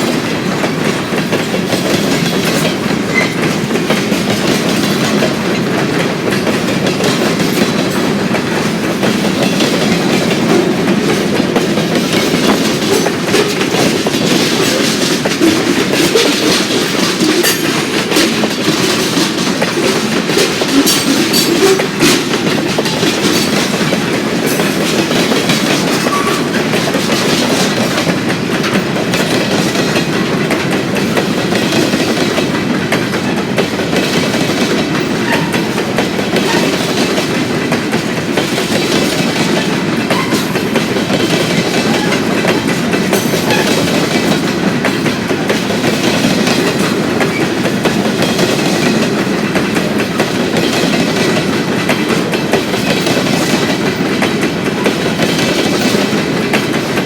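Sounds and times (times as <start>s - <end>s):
freight train cars rolling: 0.0s - 57.0s
wheels clicking over track: 0.0s - 57.0s.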